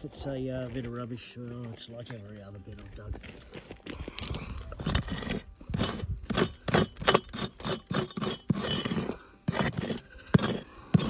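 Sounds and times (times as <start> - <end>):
pick striking stony ground: 1.6 - 11.0.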